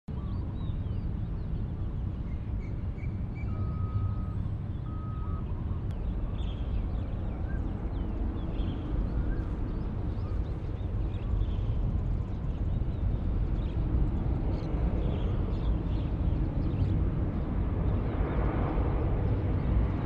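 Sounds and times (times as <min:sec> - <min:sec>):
distant jet engines rumbling: 0:00.4 - 0:20.0.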